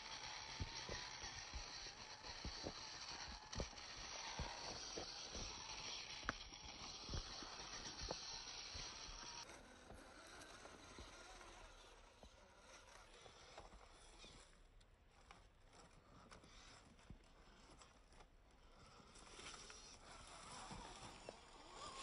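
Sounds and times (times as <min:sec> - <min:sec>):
rc car rustling over rocks: 0:00.0 - 0:22.0.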